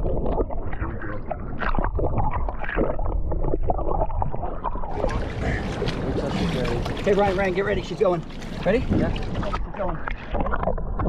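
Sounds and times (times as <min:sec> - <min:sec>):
fish tail splashing: 0:00.0 - 0:10.7
water sloshing against hull: 0:00.0 - 0:11.0.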